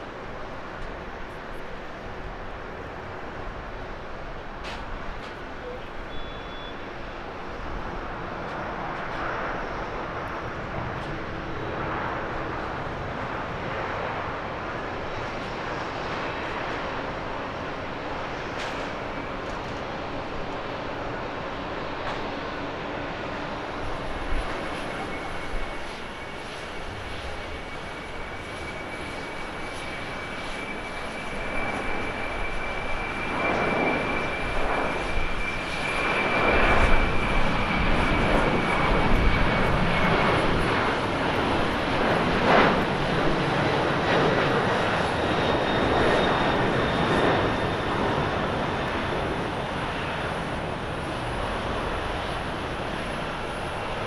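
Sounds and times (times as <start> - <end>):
jet engine roar: 0.0 - 54.0
jet engine whine: 0.0 - 54.0.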